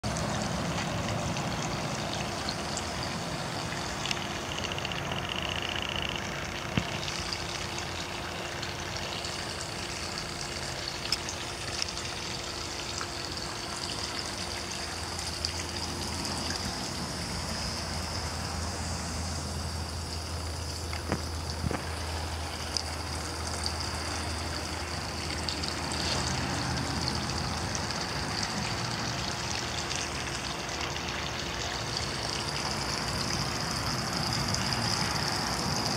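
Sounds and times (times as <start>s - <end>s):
faint steady hum: 0.0s - 35.9s
low drone: 0.0s - 35.9s.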